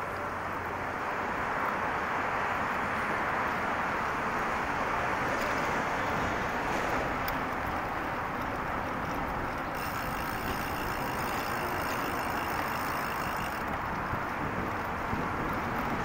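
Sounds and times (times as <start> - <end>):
road traffic rushing: 0.0 - 16.0.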